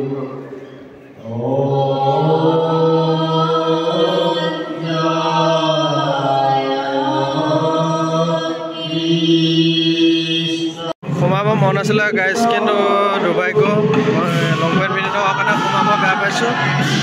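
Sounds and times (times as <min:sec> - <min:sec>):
person chanting long notes: 0:01.2 - 0:17.0.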